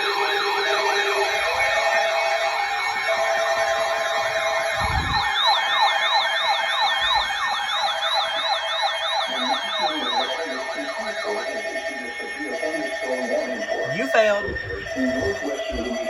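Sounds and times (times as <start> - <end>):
electronic sirens yelping: 0.0 - 16.0
higher siren yelp: 0.0 - 16.0.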